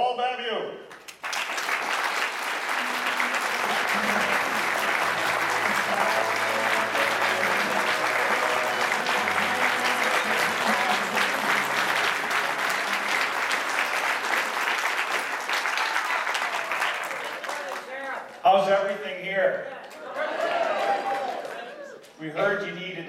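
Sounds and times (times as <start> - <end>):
audience applauding: 0.9 - 18.4, 19.8 - 22.0.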